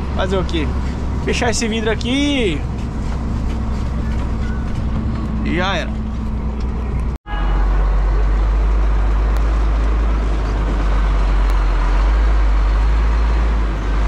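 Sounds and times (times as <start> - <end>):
road noise: 0.0 - 14.0
truck diesel engine drone: 0.0 - 14.0.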